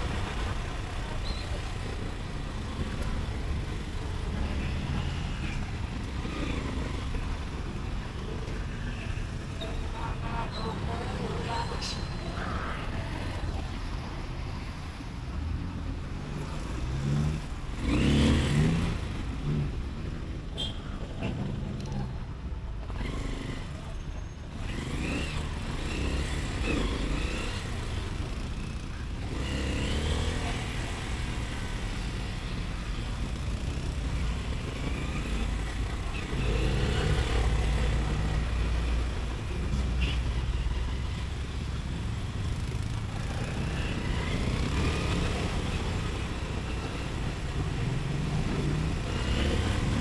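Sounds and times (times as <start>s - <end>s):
motorcycle engine revving: 0.0s - 14.3s, 15.5s - 50.0s
road noise: 0.0s - 50.0s.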